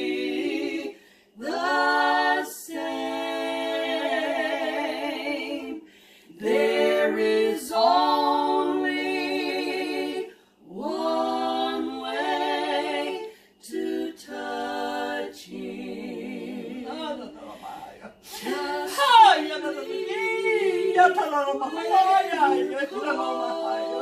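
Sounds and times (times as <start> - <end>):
women singing a cappella: 0.0 - 24.0.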